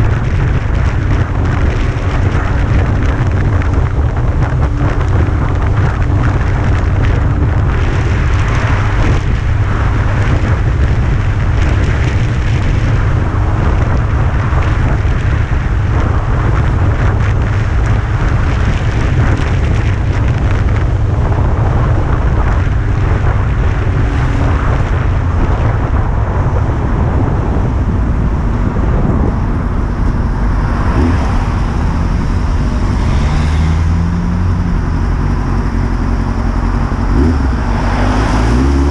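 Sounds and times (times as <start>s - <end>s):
motorcycle engine running: 0.0s - 38.9s
wind rumble: 0.0s - 38.9s.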